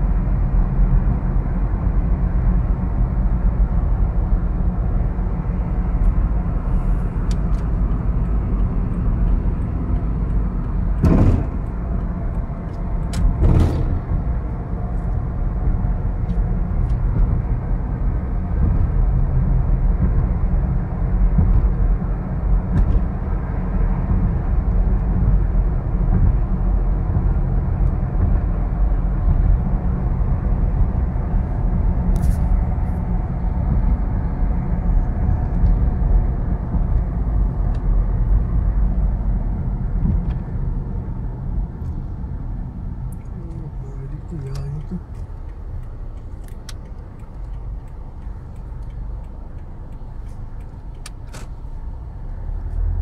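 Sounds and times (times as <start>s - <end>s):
car cabin road rumble: 0.0s - 53.0s.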